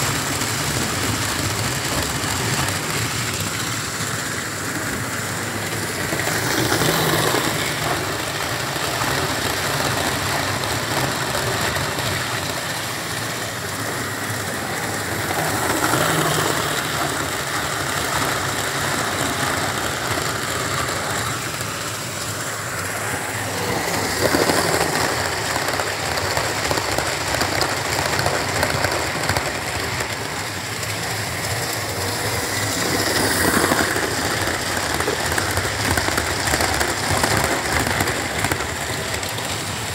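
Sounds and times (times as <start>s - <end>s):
model train motor whirring: 0.0s - 39.9s
model train rattling over track: 0.0s - 39.9s.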